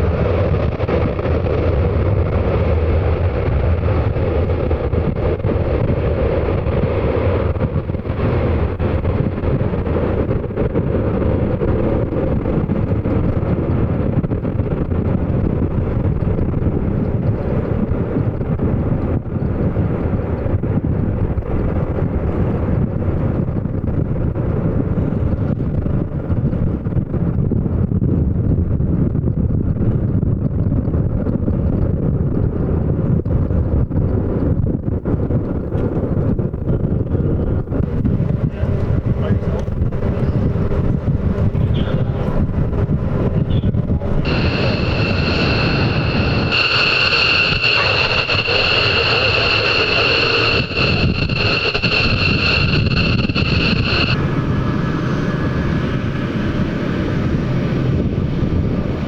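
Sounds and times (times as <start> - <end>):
jet engine noise: 0.0 - 59.0
wind buffeting microphone: 0.0 - 59.0.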